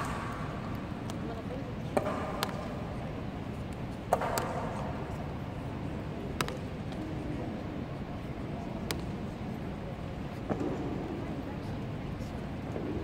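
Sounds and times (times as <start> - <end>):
crowd murmur: 0.0 - 13.0.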